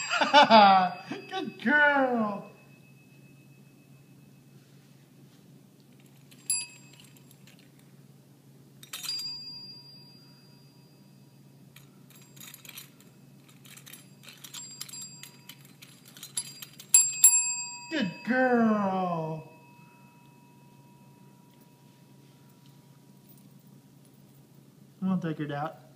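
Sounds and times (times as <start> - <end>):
small bell ringing: 0.0 - 5.3, 6.1 - 7.8, 8.8 - 24.5.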